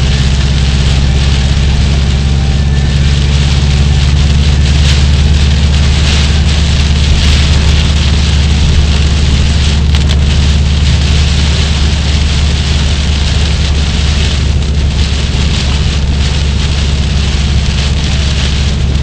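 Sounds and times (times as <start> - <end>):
car low rumble: 0.0 - 19.0
heavy rain drumming on car: 0.0 - 19.0.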